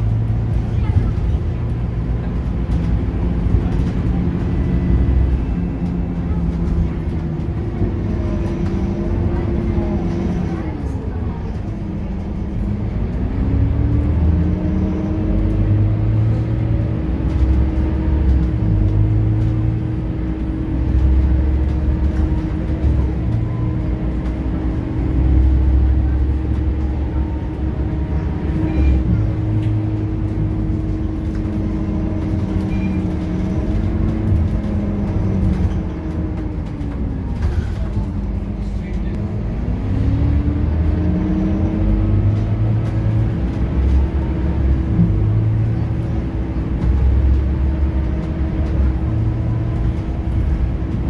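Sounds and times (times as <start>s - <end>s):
bus engine rumbling: 0.0s - 51.0s.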